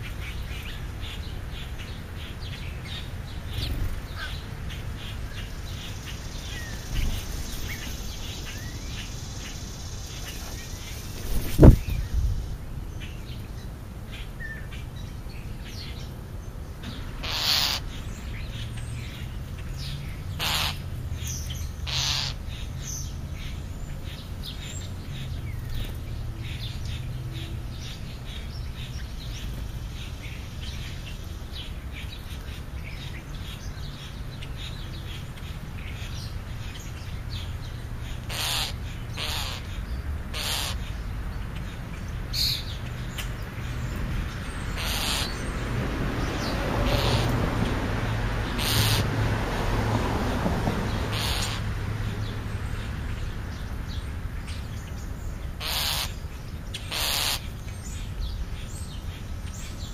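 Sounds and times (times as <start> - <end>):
harsh bird calls: 0.0 - 12.2, 16.8 - 59.9.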